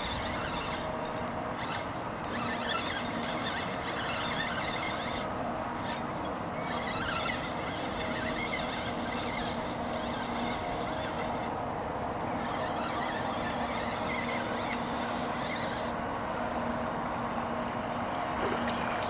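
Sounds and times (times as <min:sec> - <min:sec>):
outboard motor running: 0:00.0 - 0:16.8.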